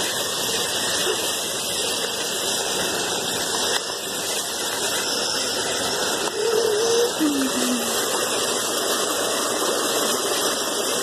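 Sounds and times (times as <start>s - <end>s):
floodwater rushing along curb: 0.0s - 11.0s.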